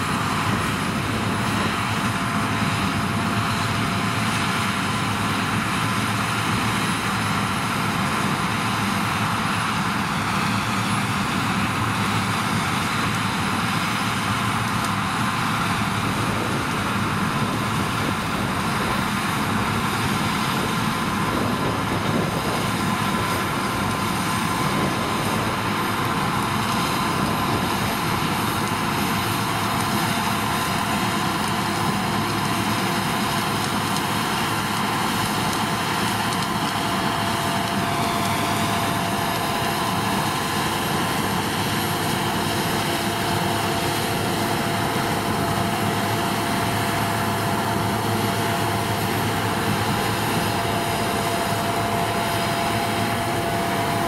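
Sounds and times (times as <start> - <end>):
machinery drone: 0.0 - 54.0.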